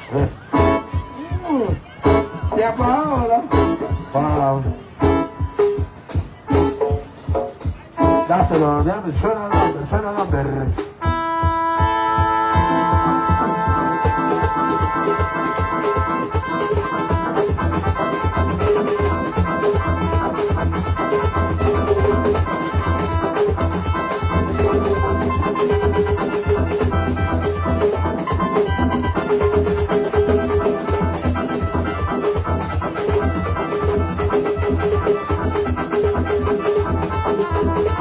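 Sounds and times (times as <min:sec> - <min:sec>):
latin dance music: 0:00.0 - 0:38.0.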